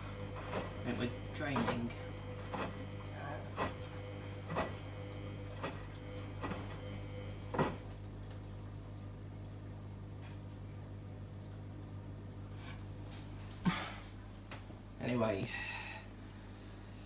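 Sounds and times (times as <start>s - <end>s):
drain pump humming: 0.0s - 17.0s.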